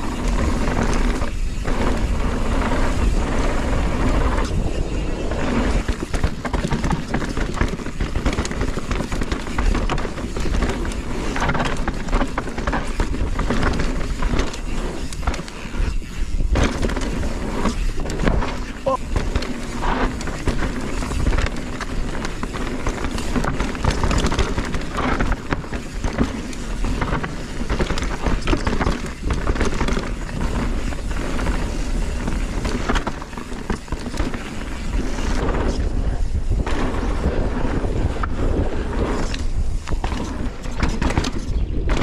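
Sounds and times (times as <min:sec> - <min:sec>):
bike clattering and rattling: 0:00.0 - 0:42.0
bike tyres skidding over dirt: 0:00.0 - 0:42.0.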